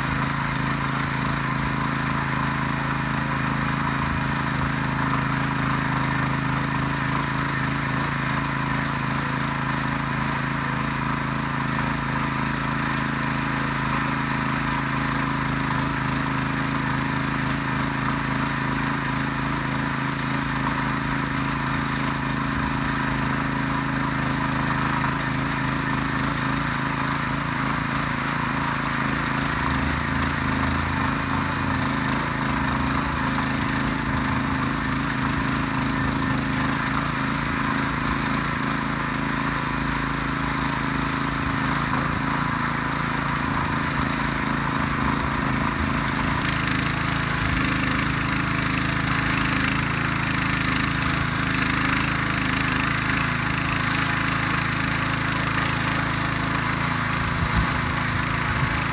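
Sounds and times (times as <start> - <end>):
motor hoe engine running: 0.0 - 58.9
tines churning dry soil: 0.0 - 58.9.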